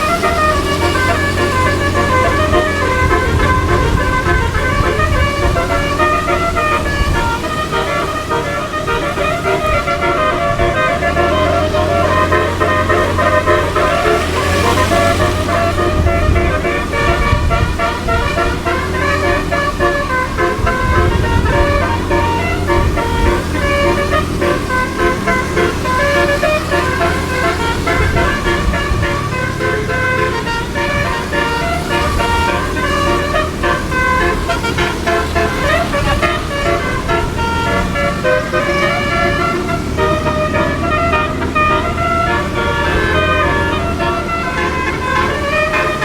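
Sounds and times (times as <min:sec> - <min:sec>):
bus engine hum: 0:00.0 - 0:46.0
multi-tone horn melody: 0:00.0 - 0:46.0.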